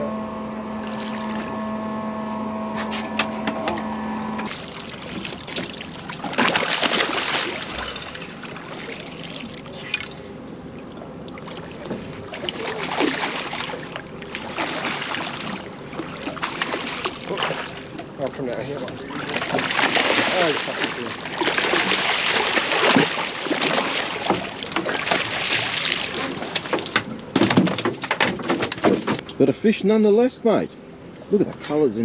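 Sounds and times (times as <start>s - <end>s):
steady hum: 0.0s - 27.4s
water splashing against boat: 0.8s - 1.9s, 4.4s - 29.4s.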